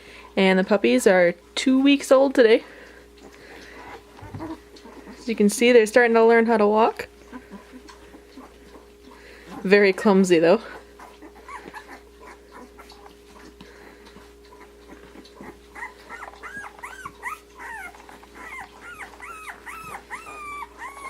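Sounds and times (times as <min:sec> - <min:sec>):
puppies whimpering and squeaking: 0:02.8 - 0:05.9, 0:06.6 - 0:21.0.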